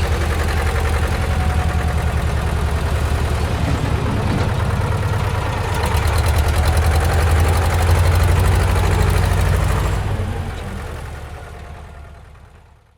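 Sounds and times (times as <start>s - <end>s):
bulldozer diesel engine throbbing: 0.0s - 12.9s.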